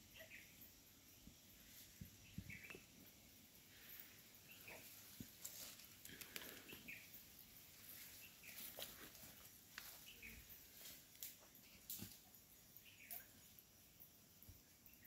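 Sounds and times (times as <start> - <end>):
faint bird chirps: 0.0 - 10.8, 11.4 - 15.0.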